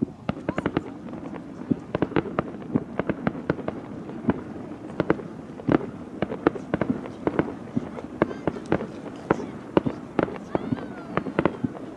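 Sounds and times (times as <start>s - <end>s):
fireworks bangs and crackles: 0.0s - 11.9s.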